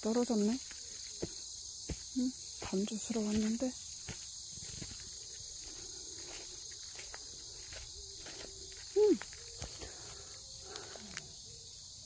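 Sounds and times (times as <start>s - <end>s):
rustles underfoot: 0.0s - 11.4s
crickets and insects chirring: 0.0s - 12.0s.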